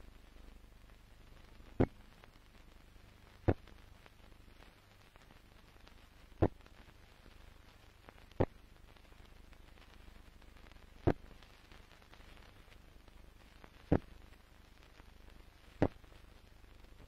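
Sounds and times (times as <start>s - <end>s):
film soundtrack hiss: 0.0s - 17.0s.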